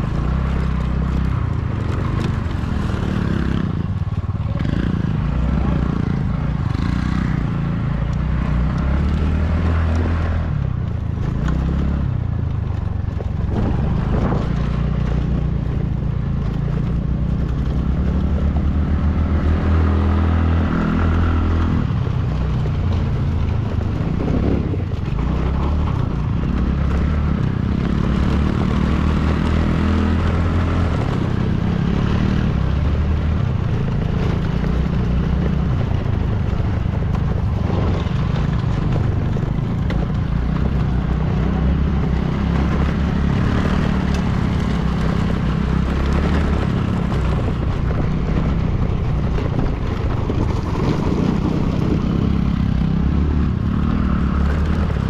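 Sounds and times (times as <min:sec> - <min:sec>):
vehicle engine under load: 0:00.0 - 0:55.0.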